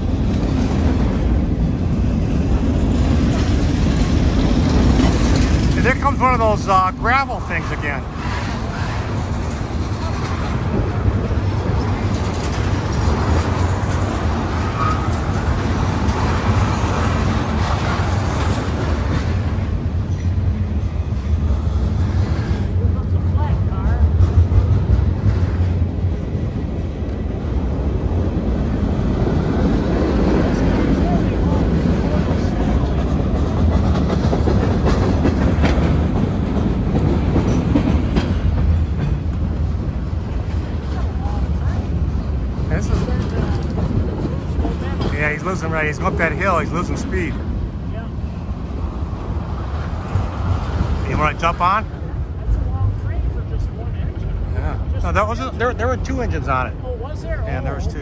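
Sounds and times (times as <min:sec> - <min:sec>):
freight train rolling on rails: 0:00.0 - 0:58.0.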